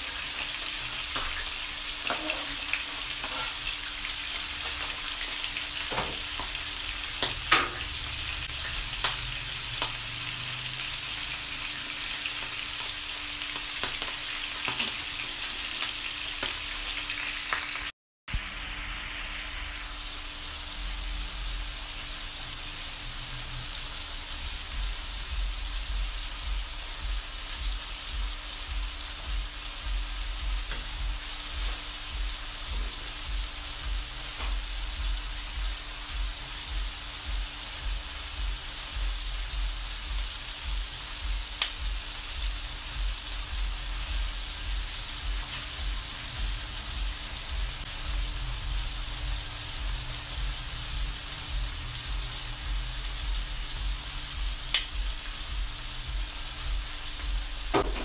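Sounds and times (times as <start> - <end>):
chicken sizzling in a pan: 0.0 - 58.0.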